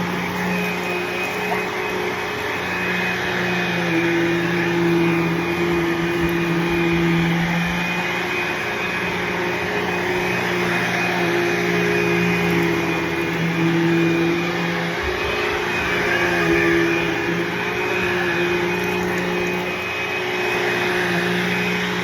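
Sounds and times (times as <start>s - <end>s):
upright vacuum cleaner running: 0.0s - 22.0s.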